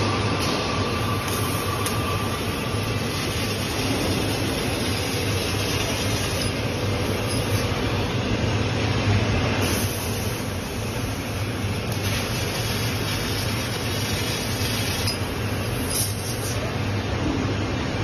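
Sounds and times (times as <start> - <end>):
laser cutting hiss: 0.0 - 8.1, 9.6 - 16.7
low machine hum: 0.0 - 18.0.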